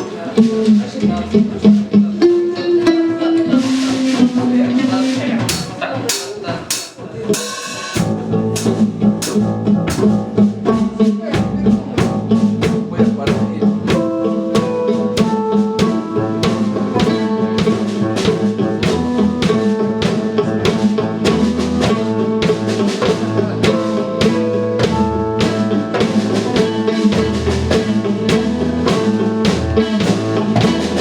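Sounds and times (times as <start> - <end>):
drum kit steady beat: 0.0 - 31.0
live band playing: 0.0 - 31.0.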